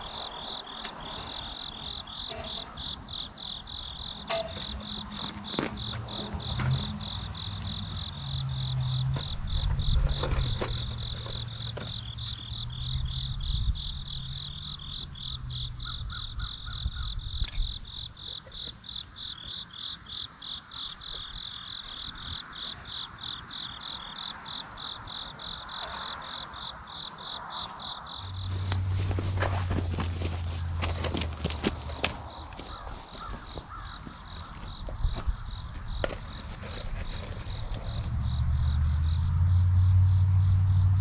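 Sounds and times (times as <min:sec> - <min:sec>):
cricket chirping: 0:00.0 - 0:41.0.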